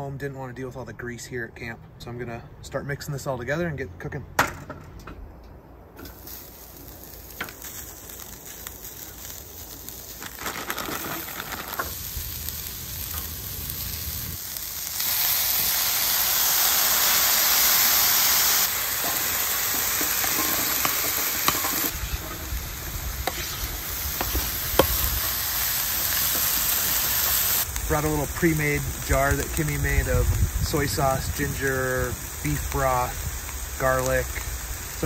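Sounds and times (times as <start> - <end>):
meat and vegetables sizzling: 6.0 - 35.0.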